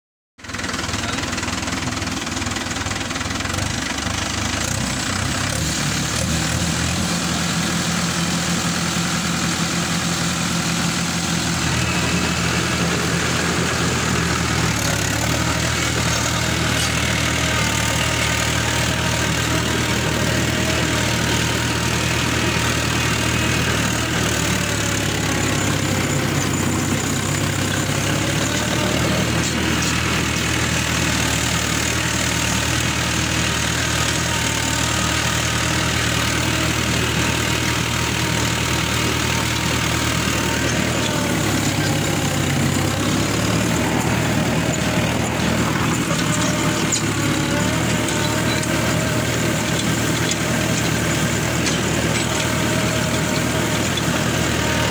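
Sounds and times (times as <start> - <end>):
tractor diesel engine: 0.4 - 54.9.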